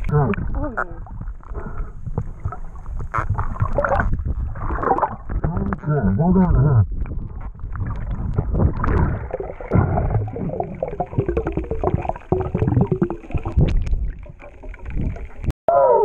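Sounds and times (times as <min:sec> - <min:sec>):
water sloshing and gurgling: 0:00.0 - 0:15.5.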